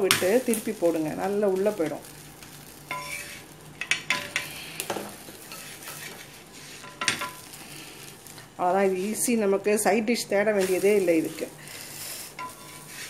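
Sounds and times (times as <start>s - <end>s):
faint sizzle of frying: 0.0s - 13.0s
spatula scraping on griddle: 0.1s - 9.3s, 10.5s - 13.0s.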